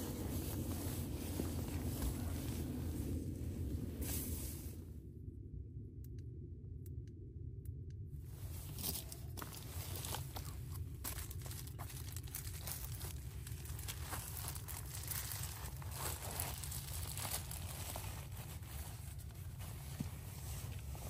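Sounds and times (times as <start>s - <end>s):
gear rustling and crinkling: 0.0s - 4.6s, 8.3s - 21.0s
steady low rumble: 0.0s - 21.0s.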